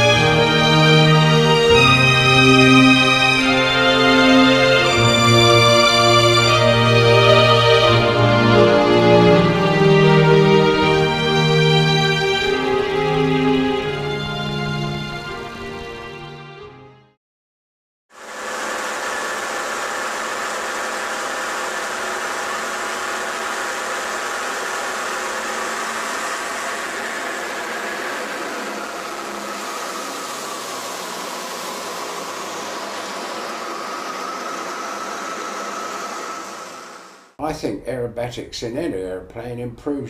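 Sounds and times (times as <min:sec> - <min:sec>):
biplane engine running: 0:00.0 - 0:16.7, 0:18.2 - 0:37.6.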